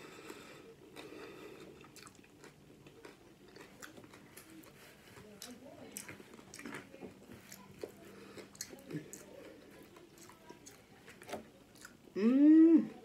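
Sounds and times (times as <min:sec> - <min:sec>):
chewing food: 0:00.0 - 0:12.2.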